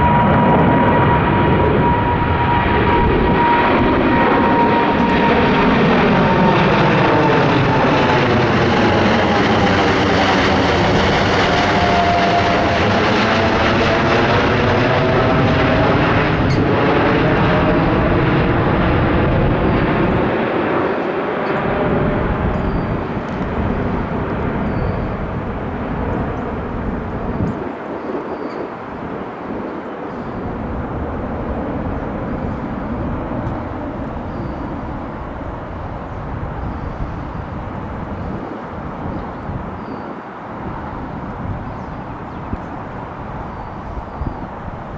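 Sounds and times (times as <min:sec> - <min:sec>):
jet engine roar: 0:00.0 - 0:44.9
jet engine whine: 0:00.0 - 0:44.9.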